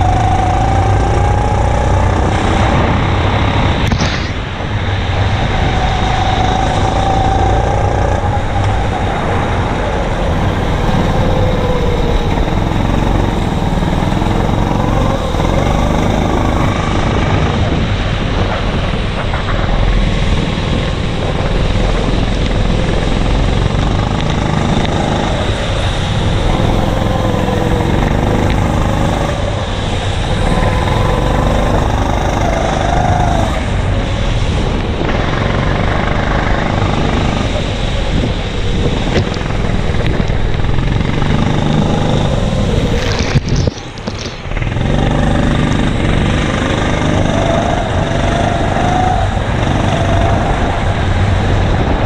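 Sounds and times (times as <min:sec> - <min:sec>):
go-kart engine running hard: 0:00.0 - 0:52.0
steady rushing noise: 0:00.0 - 0:52.0.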